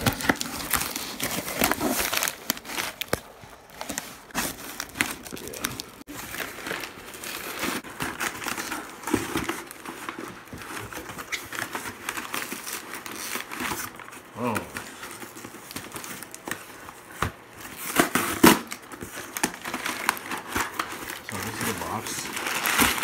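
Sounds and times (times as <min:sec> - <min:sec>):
cardboard box tearing: 0:00.0 - 0:14.7, 0:17.6 - 0:23.0
packing wrap crinkling: 0:00.0 - 0:23.0.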